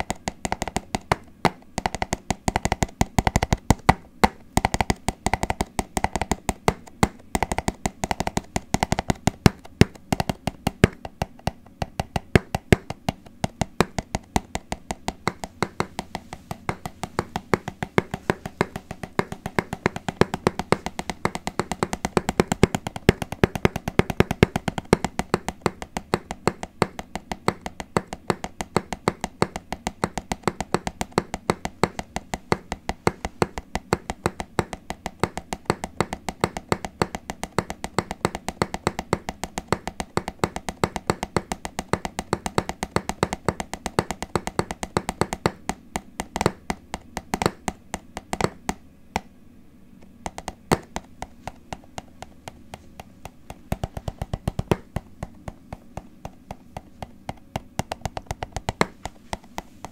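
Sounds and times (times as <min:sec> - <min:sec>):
fingers tapping on hard object: 0:00.0 - 0:49.3, 0:50.0 - 0:59.9.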